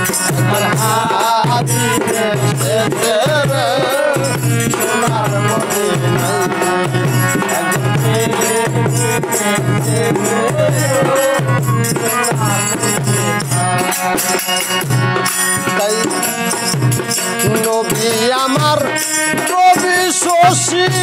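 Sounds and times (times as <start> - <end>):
drum beating steady rhythm: 0.0 - 21.0
harmonium: 0.0 - 21.0
jingling hand cymbals: 0.0 - 21.0.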